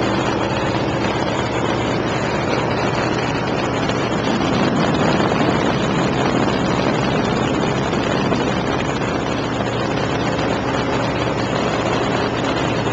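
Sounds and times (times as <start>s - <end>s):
biplane engine running: 0.0s - 12.9s
wind buffeting microphone: 0.0s - 12.9s.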